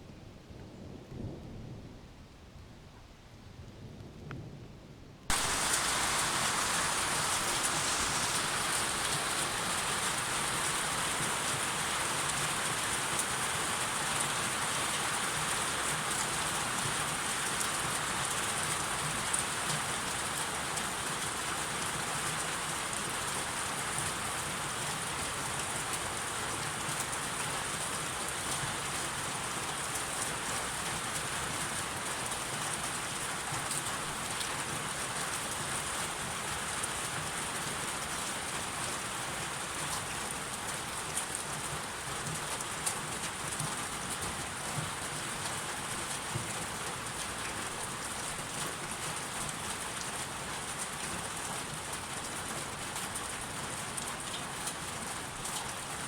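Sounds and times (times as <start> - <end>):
heavy rain falling: 5.3 - 56.0.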